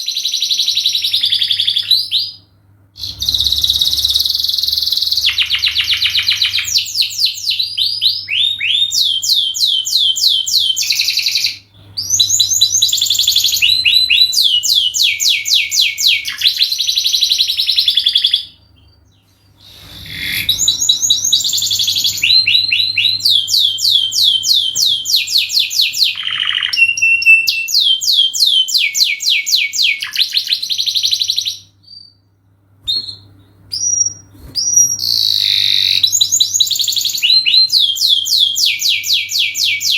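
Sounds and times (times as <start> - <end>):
canary singing trills: 0.0 - 32.2, 32.8 - 39.9.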